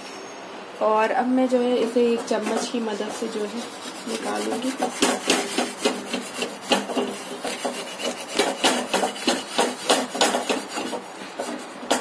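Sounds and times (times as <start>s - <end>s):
spoon scraping a griddle: 1.8s - 12.0s.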